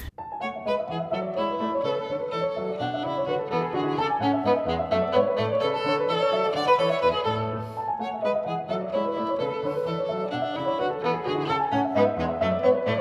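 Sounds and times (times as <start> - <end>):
upbeat violin instrumental music: 0.2 - 13.0.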